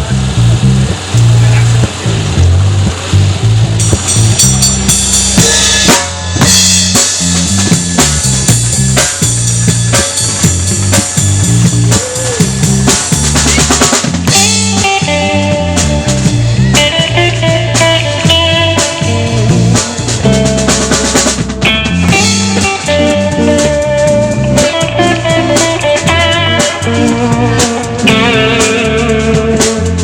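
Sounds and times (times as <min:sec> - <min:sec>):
bass guitar: 0:00.0 - 0:30.0
drum kit beat: 0:00.0 - 0:30.0
electric guitar: 0:00.0 - 0:30.0.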